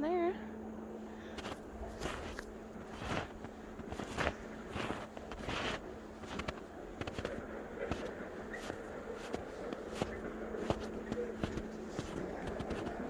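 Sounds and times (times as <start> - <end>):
low hum: 0.0 - 13.0
footsteps crunching snow: 1.4 - 13.0.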